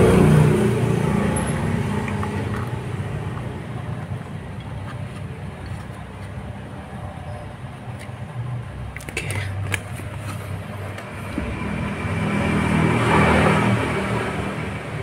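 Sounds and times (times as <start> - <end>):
passing vehicle engine rumble: 0.0 - 8.9, 9.6 - 15.0.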